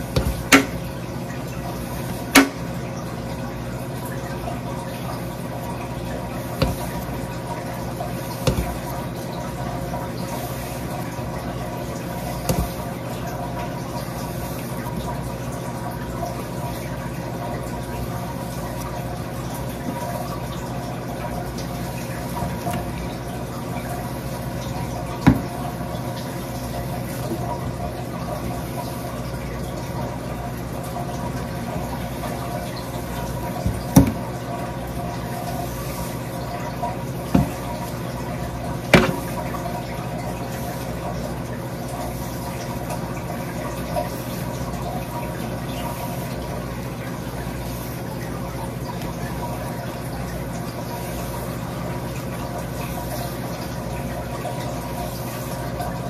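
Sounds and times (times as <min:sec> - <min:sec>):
water running into sink: 0:00.0 - 0:56.0.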